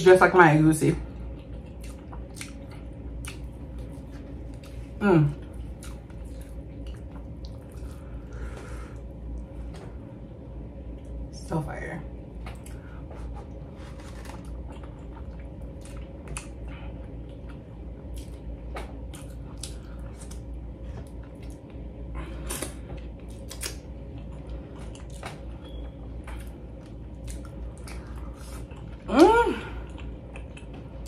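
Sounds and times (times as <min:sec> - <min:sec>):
steady low hum: 0:00.0 - 0:31.0
person chewing food: 0:01.1 - 0:10.1, 0:12.4 - 0:29.1, 0:29.8 - 0:31.0.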